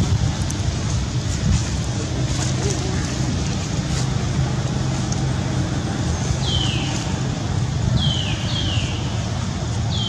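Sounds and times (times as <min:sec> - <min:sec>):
low rumble and hiss: 0:00.0 - 0:10.0.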